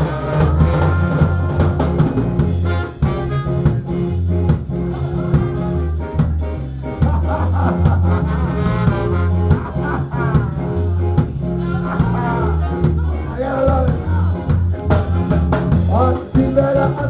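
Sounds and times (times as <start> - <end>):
bass line: 0.0 - 17.0
drum kit: 0.0 - 17.0
ska horn section: 0.0 - 17.0.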